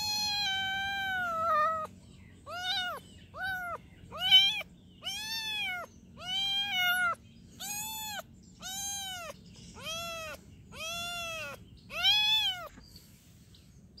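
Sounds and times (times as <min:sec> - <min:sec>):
kitten meowing: 0:00.0 - 0:12.8.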